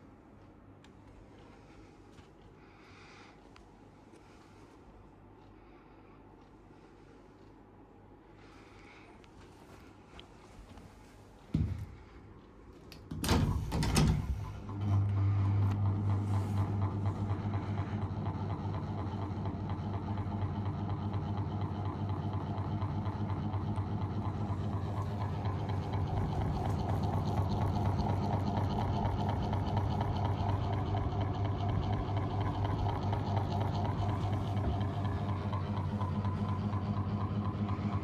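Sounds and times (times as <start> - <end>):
ceiling fan motor humming: 7.6 - 38.0.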